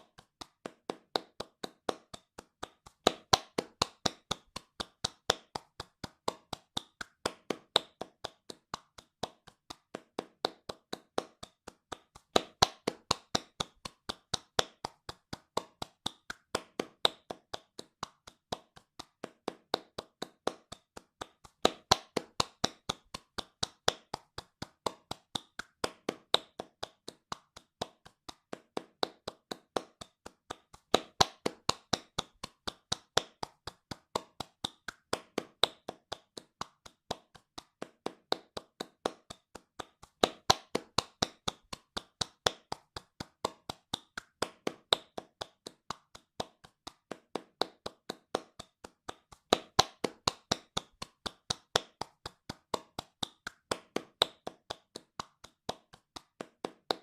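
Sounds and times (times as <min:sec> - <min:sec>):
hands clapping fast: 0:00.0 - 0:57.0.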